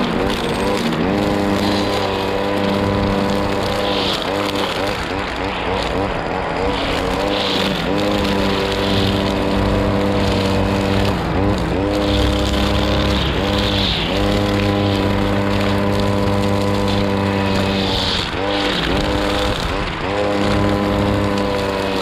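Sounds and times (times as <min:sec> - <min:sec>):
brush cutter running: 0:00.0 - 0:22.0.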